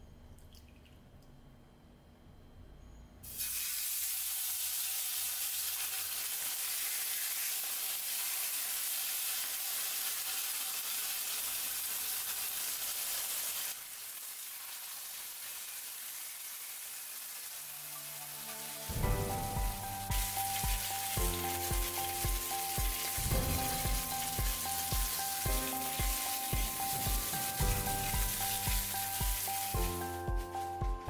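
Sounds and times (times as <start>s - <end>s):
chicken sizzling in pan: 3.3s - 30.8s.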